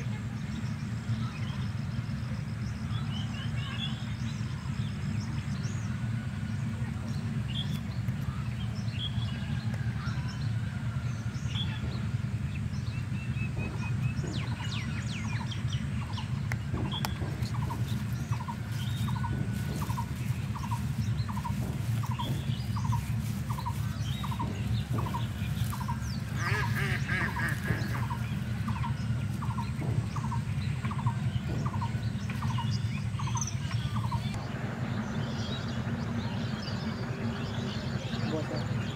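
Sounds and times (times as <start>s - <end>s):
birds chirping and calling: 0.0s - 38.9s
low rumble: 0.0s - 38.9s.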